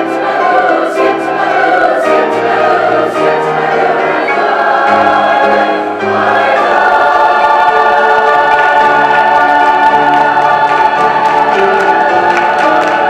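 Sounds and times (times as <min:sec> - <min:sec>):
children's choir singing a cappella: 0:00.0 - 0:13.0.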